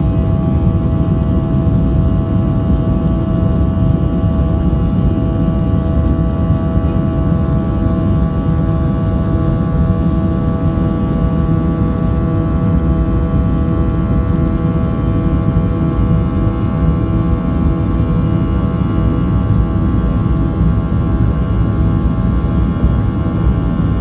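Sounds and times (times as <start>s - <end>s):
jet engines at takeoff thrust: 0.0s - 24.0s.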